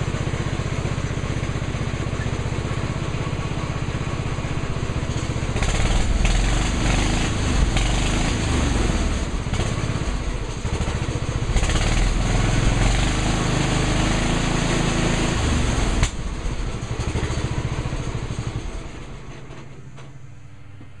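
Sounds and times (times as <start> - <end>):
riding mower engine running: 0.0 - 21.0.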